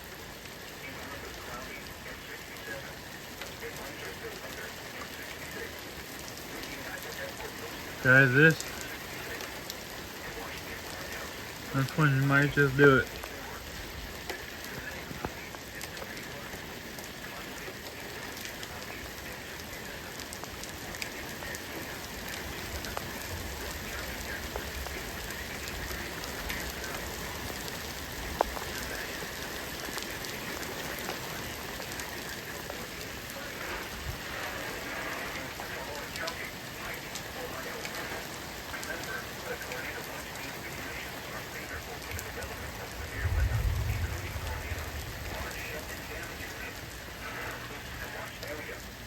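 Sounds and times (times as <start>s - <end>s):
steady rain: 0.0s - 49.0s.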